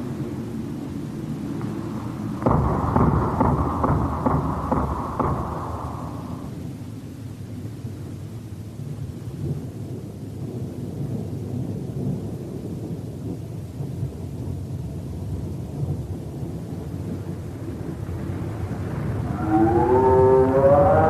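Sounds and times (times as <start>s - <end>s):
rolling thunder rumble: 0.0s - 21.0s.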